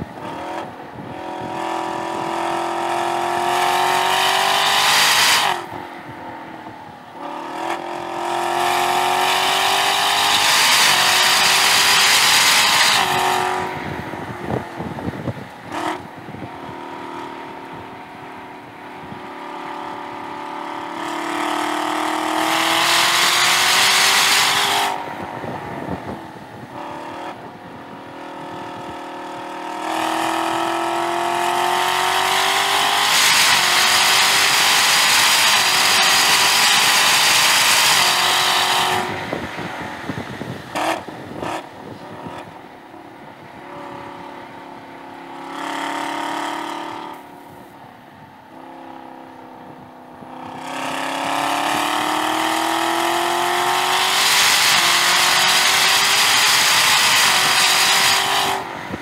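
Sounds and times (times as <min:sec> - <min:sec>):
car engine under full throttle: 0:00.0 - 0:59.0.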